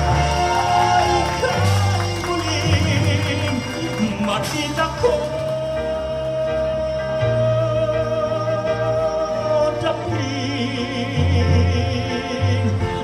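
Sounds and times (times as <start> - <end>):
instrumental accompaniment: 0.0 - 13.0
man singing a ballad: 0.0 - 13.0.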